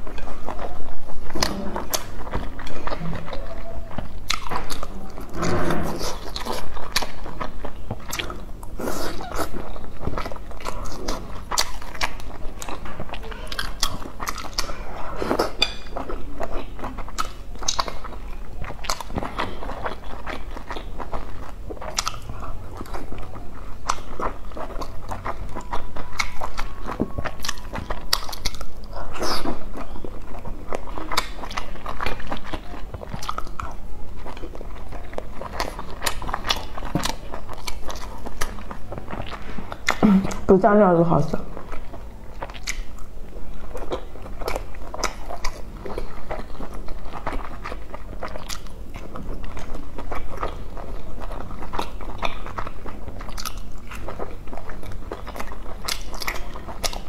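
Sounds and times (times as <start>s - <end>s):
person chewing wetly: 0.0s - 57.0s.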